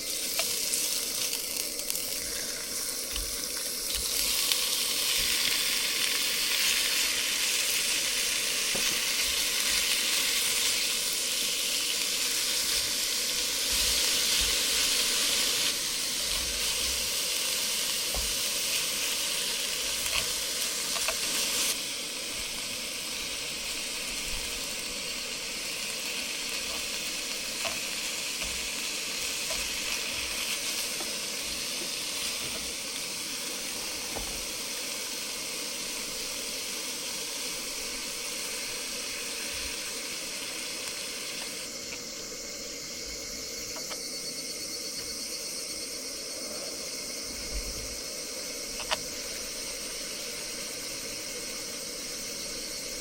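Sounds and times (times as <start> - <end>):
food sizzling in a pan: 0.0 - 53.0.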